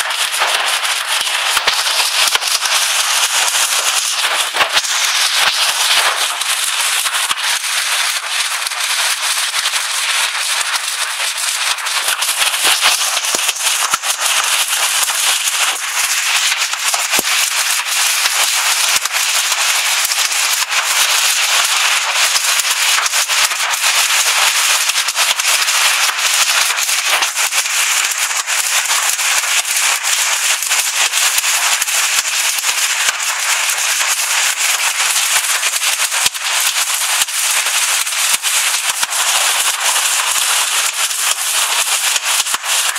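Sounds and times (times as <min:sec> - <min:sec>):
hail and rain pelting down: 0:00.0 - 0:42.9.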